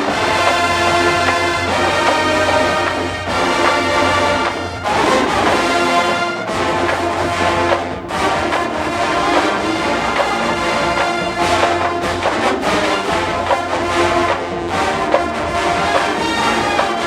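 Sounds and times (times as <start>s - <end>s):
brass sustained chords: 0.0s - 17.0s.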